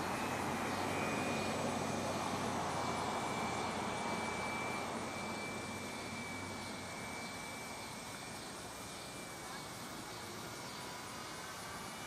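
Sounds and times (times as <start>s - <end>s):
model airplane motor whine: 0.0s - 12.0s.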